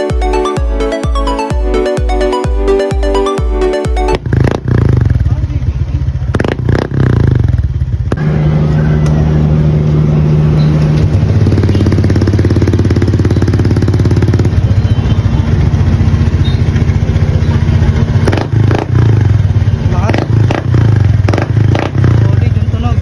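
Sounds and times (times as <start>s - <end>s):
scooter engine idling: 3.0s - 23.0s.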